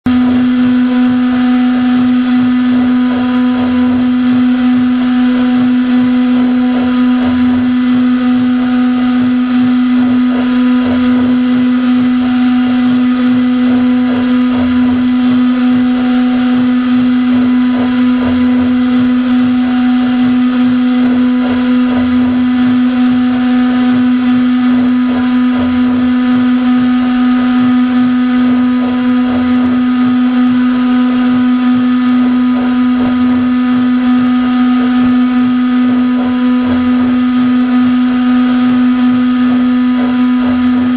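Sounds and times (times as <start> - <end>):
faint low rumbling: 0.0 - 40.9
router spindle high-pitched whine: 0.0 - 40.9.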